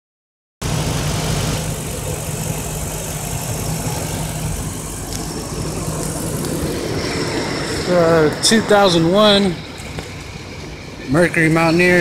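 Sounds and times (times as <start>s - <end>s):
engine idling: 0.6s - 12.0s.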